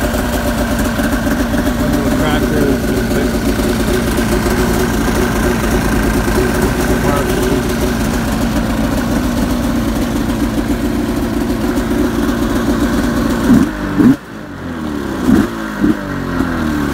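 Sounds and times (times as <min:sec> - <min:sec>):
snowmobile engine idling: 0:00.0 - 0:16.9.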